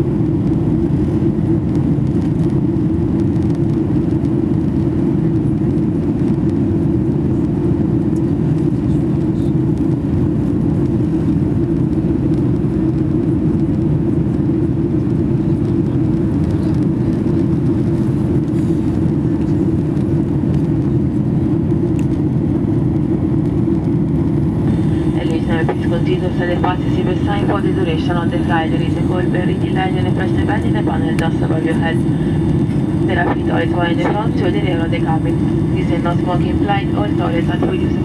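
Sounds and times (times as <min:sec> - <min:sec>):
airplane cabin drone: 0:00.0 - 0:38.0.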